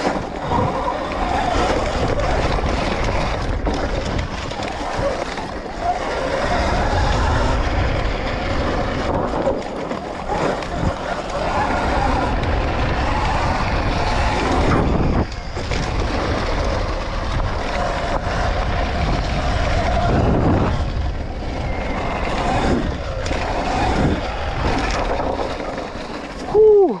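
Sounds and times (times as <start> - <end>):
wind and riding noise: 0.0 - 27.0.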